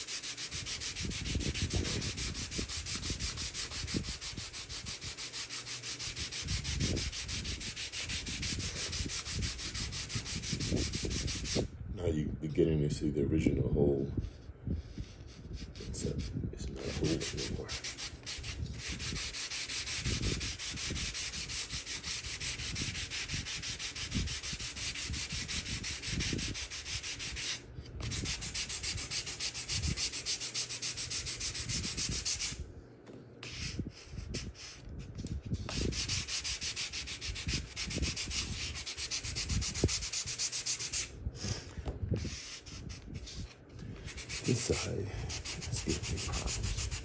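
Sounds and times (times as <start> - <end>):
sandpaper rubbing on wood: 0.0 - 11.7, 15.0 - 32.6, 33.4 - 41.5, 42.2 - 47.0.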